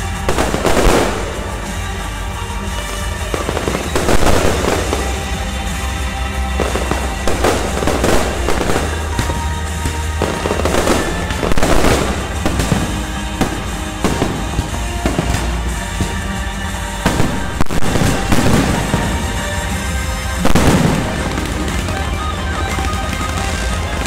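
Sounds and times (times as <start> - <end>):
aerial fireworks bursting: 0.0 - 24.0
fireworks crackling: 0.0 - 24.0.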